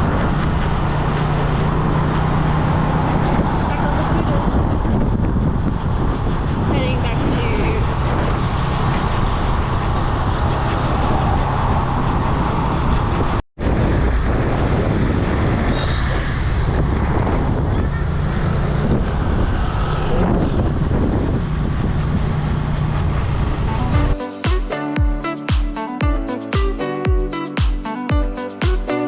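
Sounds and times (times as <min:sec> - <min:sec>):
wind buffeting microphone: 0:00.0 - 0:23.9
vehicle rumble and road noise: 0:00.0 - 0:24.0.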